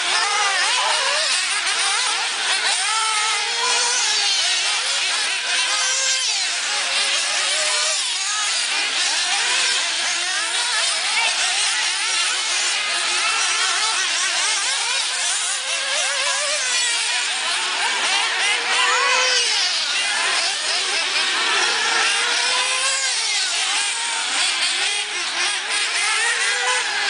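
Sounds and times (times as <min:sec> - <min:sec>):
rc car engines whining: 0:00.0 - 0:27.0.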